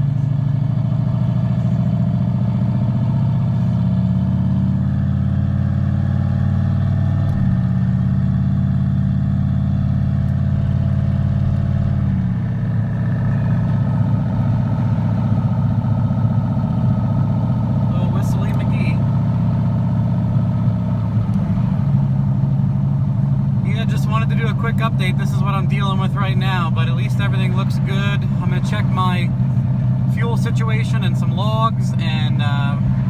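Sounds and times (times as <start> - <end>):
truck engine from inside cab: 0.0 - 33.0.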